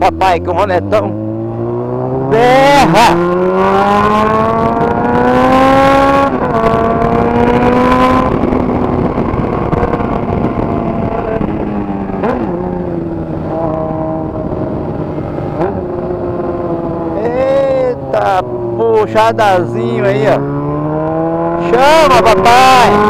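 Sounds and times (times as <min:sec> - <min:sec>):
motorcycle accelerating: 0:00.0 - 0:23.0.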